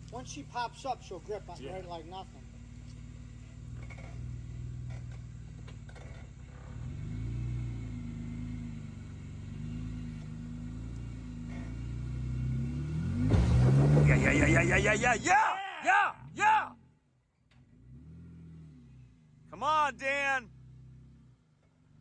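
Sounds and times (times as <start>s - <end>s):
car engine revving at low revs: 0.0s - 15.3s, 17.6s - 22.0s.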